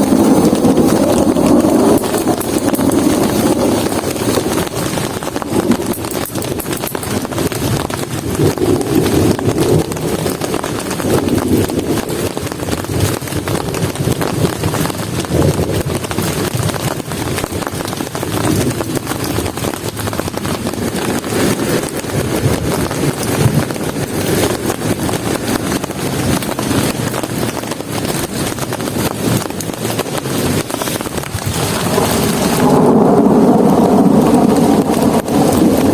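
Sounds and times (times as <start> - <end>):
low rumble: 0.0 - 25.4, 29.2 - 35.9
heavy rain falling: 0.0 - 35.9.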